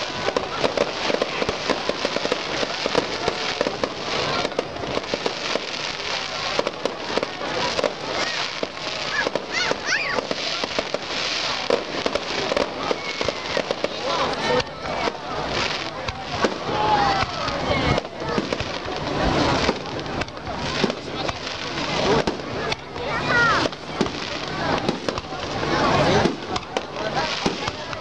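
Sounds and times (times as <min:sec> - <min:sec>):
fireworks crackling and popping: 0:00.0 - 0:28.0.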